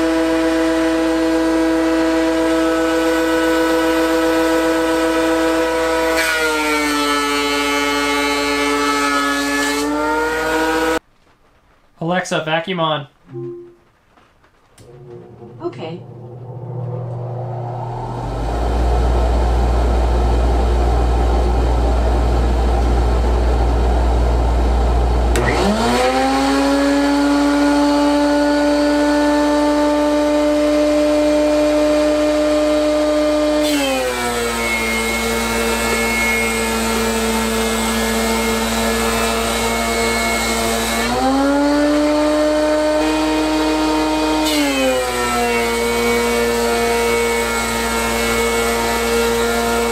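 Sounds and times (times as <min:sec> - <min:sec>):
shop vacuum running: 0:00.0 - 0:11.0, 0:14.8 - 0:49.9
thickness planer whine: 0:00.0 - 0:11.0, 0:14.8 - 0:49.9.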